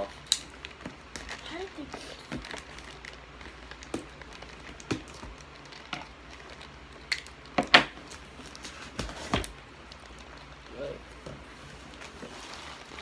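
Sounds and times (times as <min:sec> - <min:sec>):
packing tape rustling and crinkling: 0:00.0 - 0:13.0.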